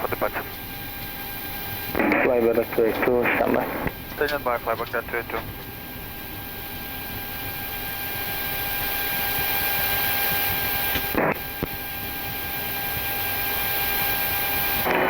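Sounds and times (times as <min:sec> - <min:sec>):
aircraft cabin hiss and whine: 0:00.0 - 0:15.0.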